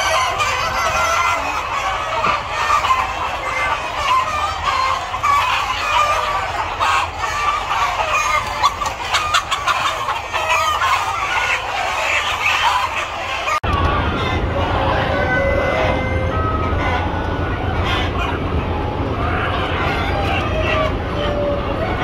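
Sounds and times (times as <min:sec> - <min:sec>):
hens and roosters clucking: 0:00.0 - 0:22.0.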